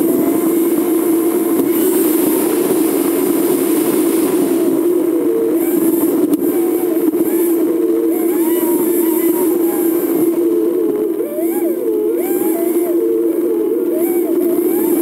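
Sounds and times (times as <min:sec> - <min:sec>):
constant low hum: 0:00.0 - 0:15.0
road and wind noise: 0:00.0 - 0:15.0.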